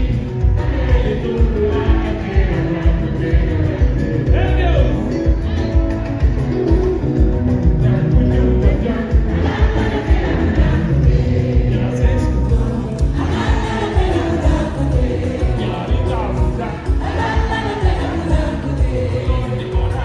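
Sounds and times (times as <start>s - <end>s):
crowd singing together: 0.0s - 20.0s
live band playing: 0.0s - 20.0s.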